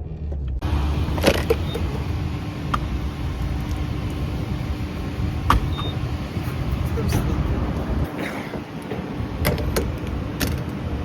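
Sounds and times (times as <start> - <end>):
road rumble inside car: 0.0 - 11.0.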